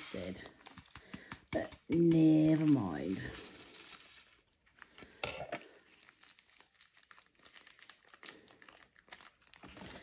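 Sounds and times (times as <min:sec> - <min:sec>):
plastic bag crinkling: 0:00.6 - 0:10.0.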